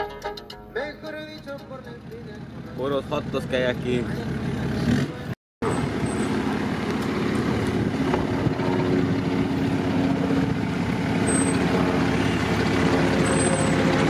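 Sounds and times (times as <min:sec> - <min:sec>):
vehicle engine running: 0:00.8 - 0:14.0.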